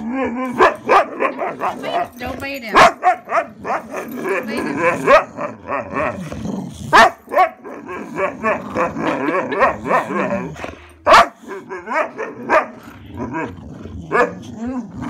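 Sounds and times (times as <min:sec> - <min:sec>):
dogs growling and barking: 0:00.0 - 0:15.0.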